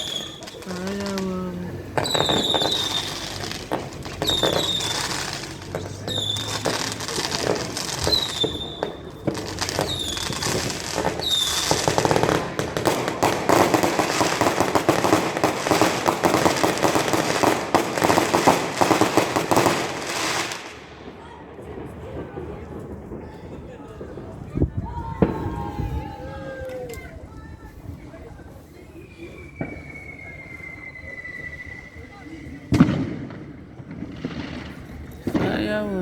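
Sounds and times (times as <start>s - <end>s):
fireworks whistling and banging: 0.0s - 36.0s
rapid fireworks crackling: 0.0s - 36.0s.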